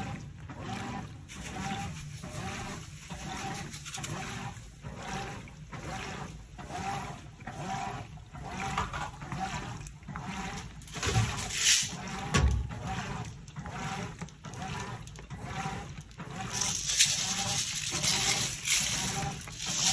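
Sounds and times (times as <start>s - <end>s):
washing machine water sloshing: 0.0s - 19.9s.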